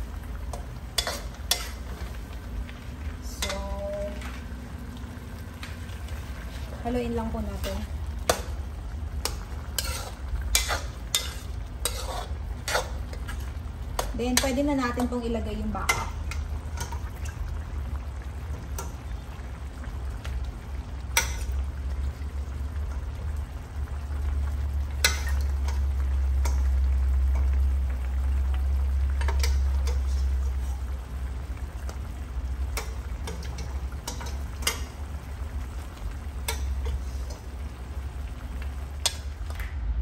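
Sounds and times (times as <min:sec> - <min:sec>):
faint sizzle: 0:00.0 - 0:40.0
low steady hum: 0:00.0 - 0:40.0.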